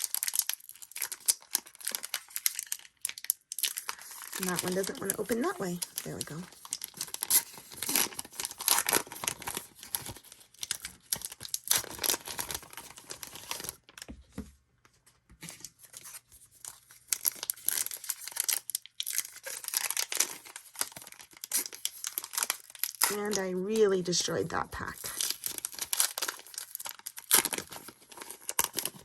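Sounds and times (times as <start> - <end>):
wrapper tearing and crinkling: 0.0 - 14.0, 15.8 - 29.0.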